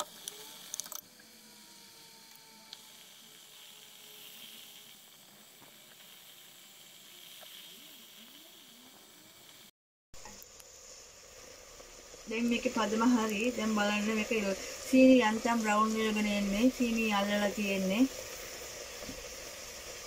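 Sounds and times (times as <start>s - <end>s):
syrup sizzling in a pan: 0.0s - 20.0s.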